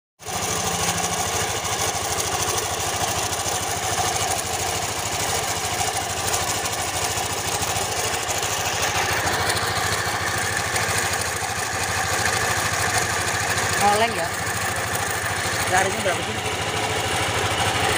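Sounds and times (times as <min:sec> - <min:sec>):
scooter engine idling with rattle: 0:00.2 - 0:17.9.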